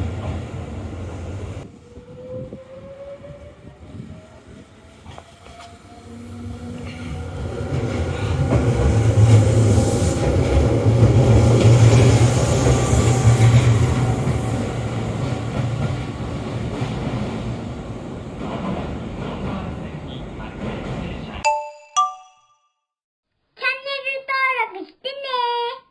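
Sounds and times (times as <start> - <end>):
electric train passing: 0.0 - 21.2.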